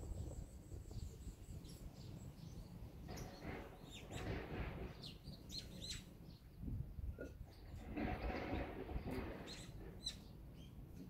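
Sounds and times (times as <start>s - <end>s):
small songbirds chirping: 0.0s - 11.0s.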